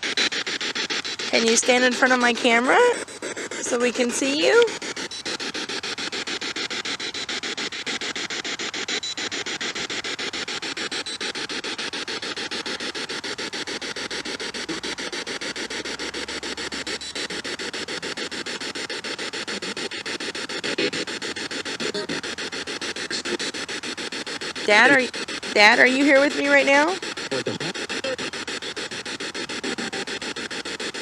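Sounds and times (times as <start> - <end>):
radio static pulsing: 0.0 - 31.0.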